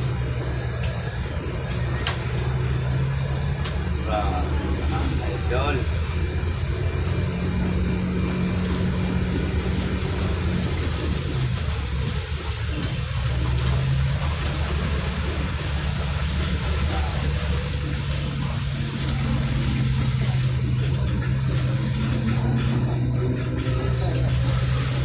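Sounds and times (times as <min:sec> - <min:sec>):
bus engine droning: 0:00.0 - 0:25.0
tyres on wet road: 0:00.0 - 0:25.0.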